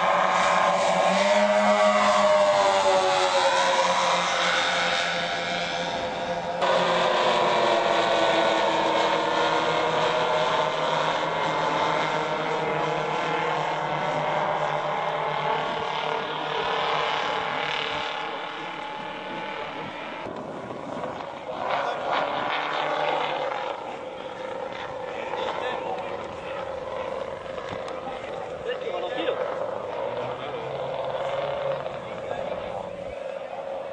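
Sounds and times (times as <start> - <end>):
model plane engines droning: 0.0 - 33.9.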